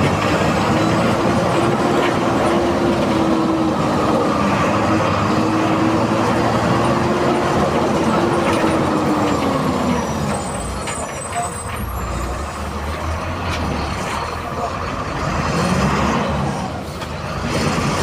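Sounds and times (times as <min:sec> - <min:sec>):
bus diesel engine whine: 0:00.0 - 0:18.0.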